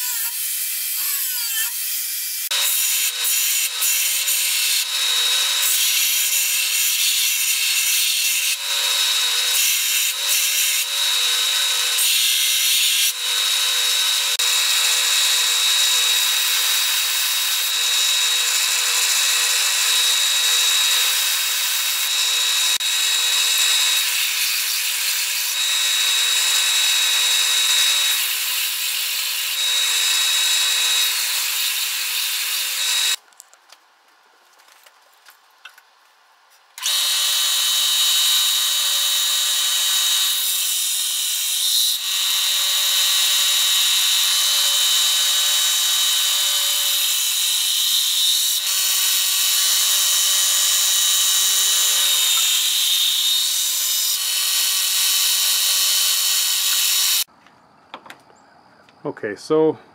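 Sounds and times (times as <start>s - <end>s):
belt sander grinding steel: 0.0s - 33.2s, 36.8s - 57.3s.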